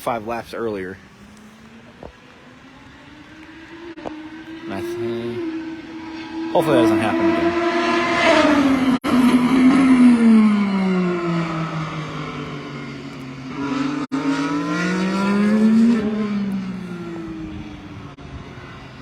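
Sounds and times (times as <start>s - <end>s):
race car engine: 0.0s - 19.0s.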